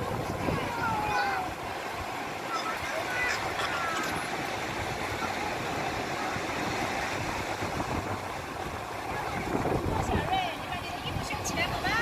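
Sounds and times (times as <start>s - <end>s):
waves breaking on a beach: 0.0s - 12.0s.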